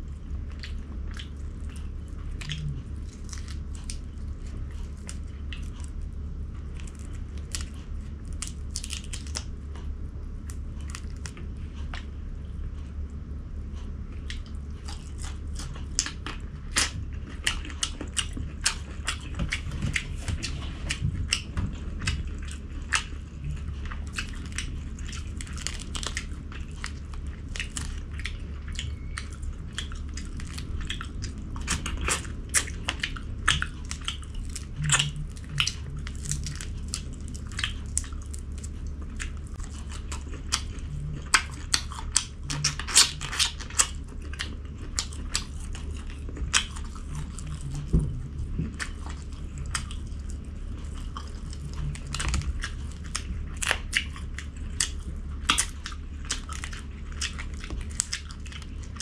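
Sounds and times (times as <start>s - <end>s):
person chewing and crunching food: 0.0s - 59.0s
steady low hum: 0.0s - 59.0s.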